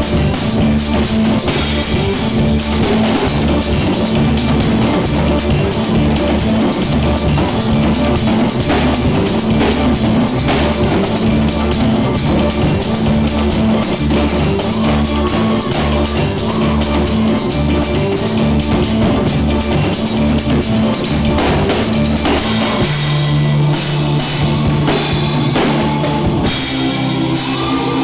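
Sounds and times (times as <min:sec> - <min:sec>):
drum kit steady beat: 0:00.0 - 0:28.0
loud band music: 0:00.0 - 0:28.0.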